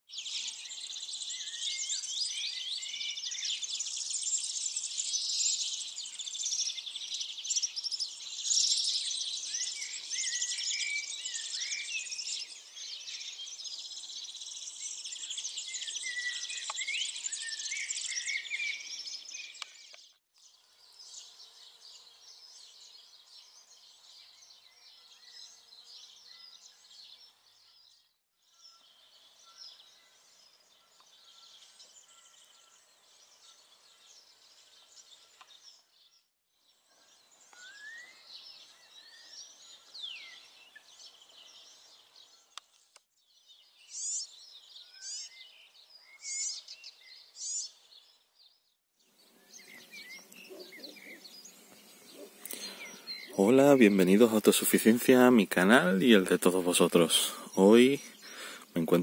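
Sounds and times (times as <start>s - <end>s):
small birds chirping: 0.1s - 59.0s.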